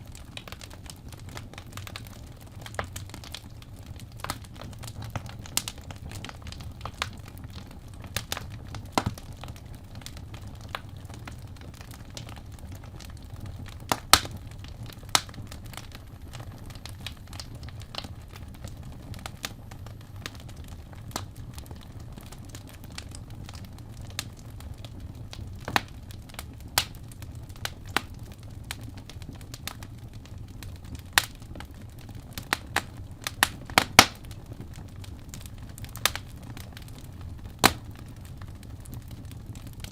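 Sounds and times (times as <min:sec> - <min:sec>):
sharp fire pops: 0:00.0 - 0:39.9
wood fire crackling: 0:00.0 - 0:39.9.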